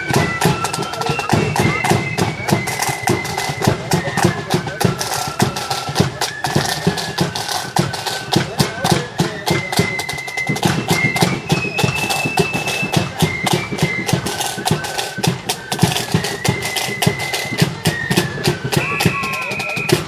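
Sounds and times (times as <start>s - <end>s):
flute melody: 0.0s - 20.0s
snare drumming: 0.0s - 20.0s.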